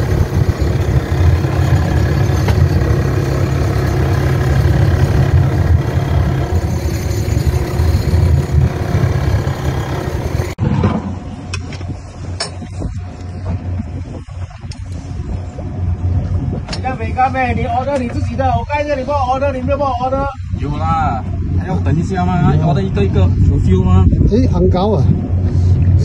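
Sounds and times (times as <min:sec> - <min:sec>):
boat engine humming: 0:00.0 - 0:18.5, 0:21.1 - 0:23.6
water and wind rushing: 0:00.0 - 0:26.0.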